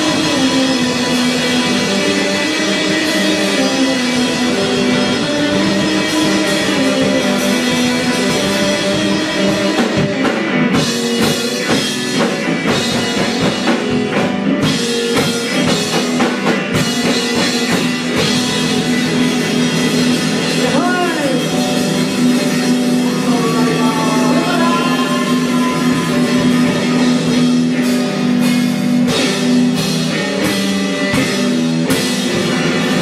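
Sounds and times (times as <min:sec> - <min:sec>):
drum kit: 0:00.0 - 0:33.0
electric guitar sustained chords: 0:00.0 - 0:33.0.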